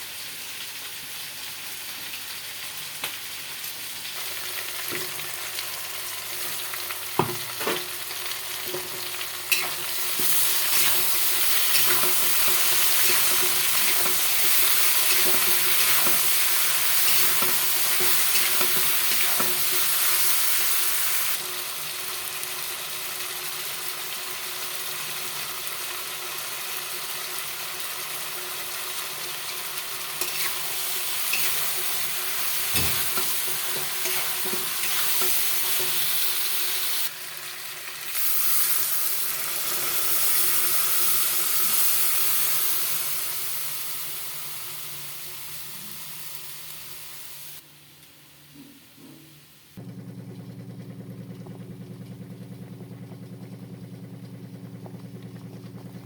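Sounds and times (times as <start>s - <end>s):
food sizzling in hot oil: 0.1s - 47.6s.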